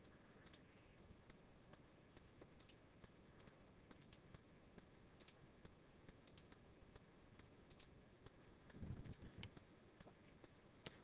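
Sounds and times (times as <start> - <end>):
computer mouse clicks: 0.4 - 11.0.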